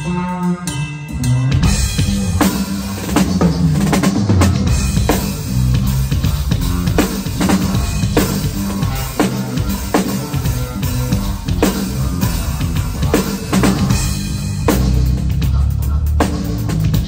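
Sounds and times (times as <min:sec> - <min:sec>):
drum kit playing: 0:00.0 - 0:17.0
electric bass guitar: 0:00.0 - 0:17.0.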